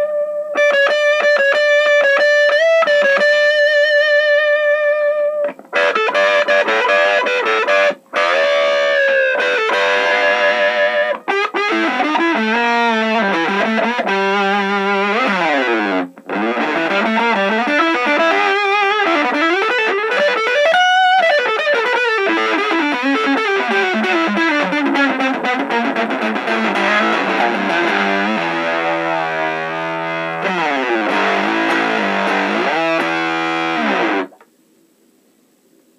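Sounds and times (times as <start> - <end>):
fuzz electric guitar lead: 0.0 - 34.4.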